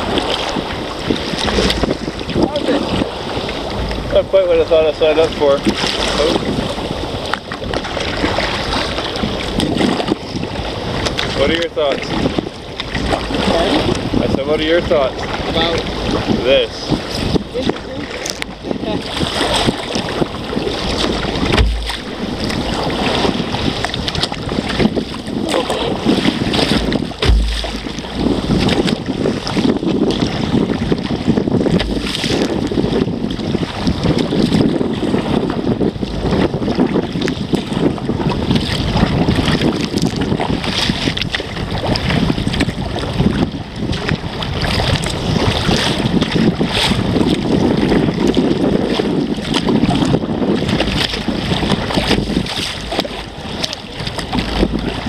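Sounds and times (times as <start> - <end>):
waves splashing against hull: 0.0 - 55.0
wind buffeting microphone: 0.0 - 55.0.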